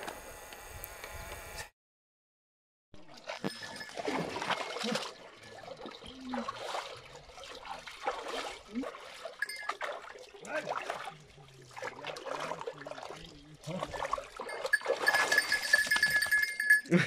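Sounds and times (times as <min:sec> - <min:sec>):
water splashing and trickling: 0:03.0 - 0:16.8.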